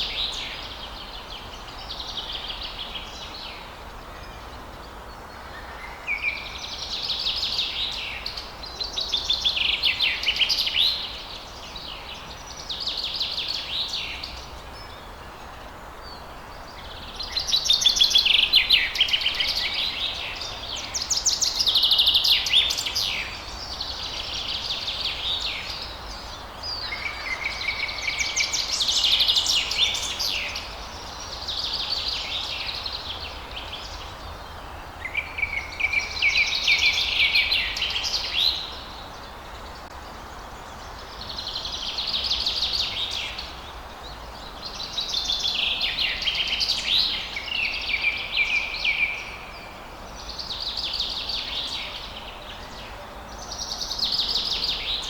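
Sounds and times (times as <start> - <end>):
songbirds trilling and chirping: 0.0 - 55.0
steady background hiss: 0.0 - 55.0.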